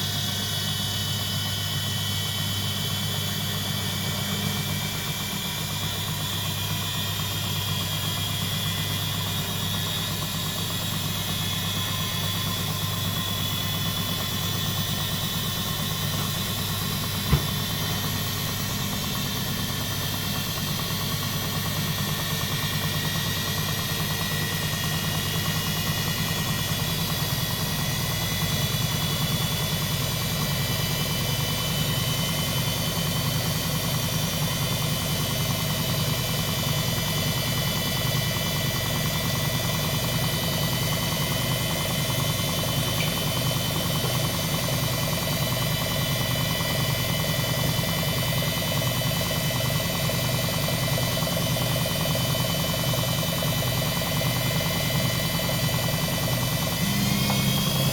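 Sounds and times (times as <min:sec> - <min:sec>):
washing machine humming: 0:00.0 - 0:57.9.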